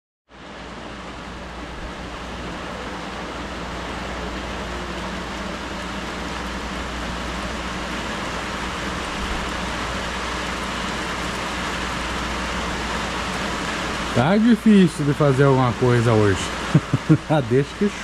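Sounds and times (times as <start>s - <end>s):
steady rain falling: 0.3s - 18.0s.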